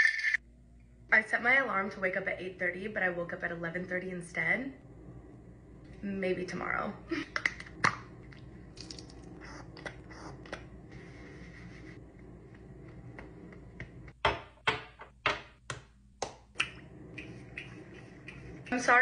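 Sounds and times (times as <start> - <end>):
room heater hum: 0.4 - 19.0.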